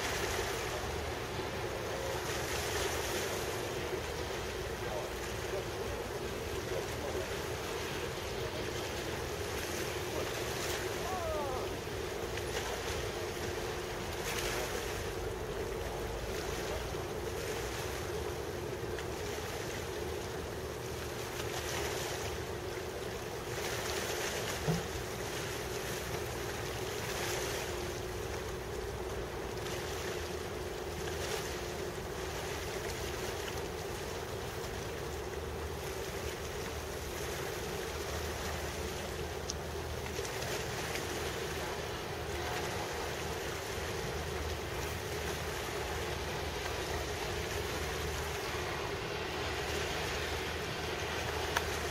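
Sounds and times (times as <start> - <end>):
ship machinery drone: 0.0 - 51.9
water washing: 0.0 - 51.9.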